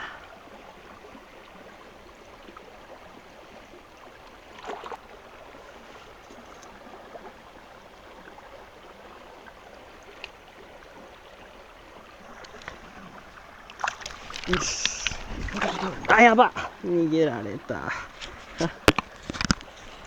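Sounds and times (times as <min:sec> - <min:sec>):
mountain stream running: 0:00.0 - 0:20.0.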